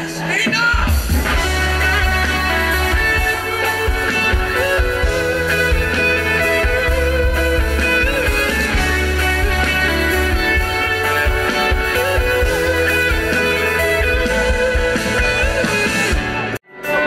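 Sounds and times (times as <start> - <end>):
live pop-rock band playing: 0.0 - 17.0
electric guitar: 0.9 - 17.0.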